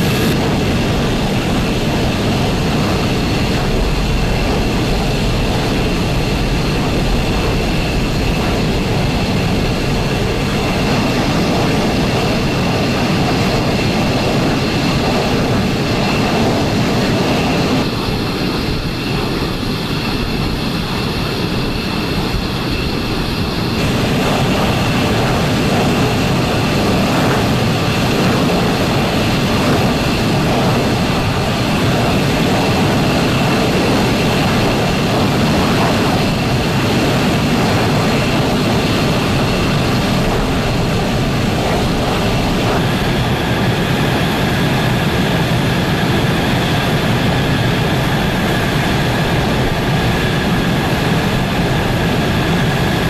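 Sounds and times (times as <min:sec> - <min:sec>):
high engine whine: 0:00.0 - 0:53.0
jet engines rushing: 0:00.0 - 0:53.0
lower engine whine: 0:00.0 - 0:53.0.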